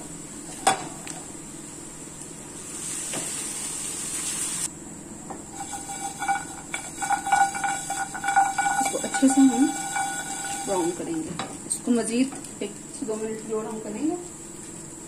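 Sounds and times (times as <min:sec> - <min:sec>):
spices hissing in a pan: 0:00.0 - 0:04.7, 0:05.4 - 0:15.0.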